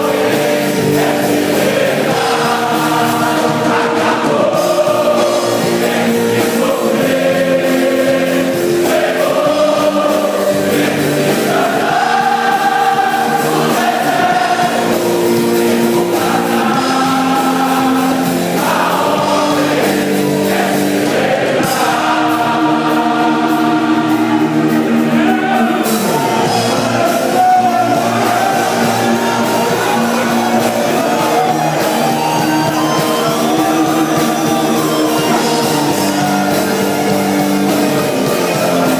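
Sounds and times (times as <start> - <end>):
choir singing gospel: 0.0 - 38.9
instrumental accompaniment: 0.0 - 38.9.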